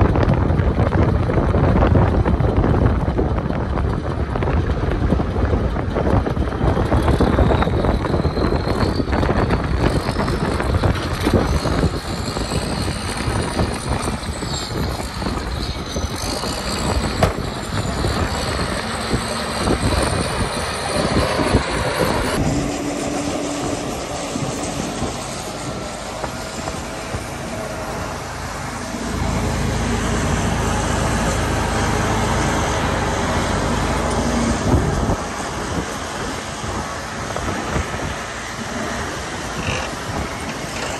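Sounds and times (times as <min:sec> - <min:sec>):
deep engine rumble: 0:00.0 - 0:40.9
diesel engines under load: 0:00.0 - 0:40.9
high whine: 0:00.0 - 0:40.9.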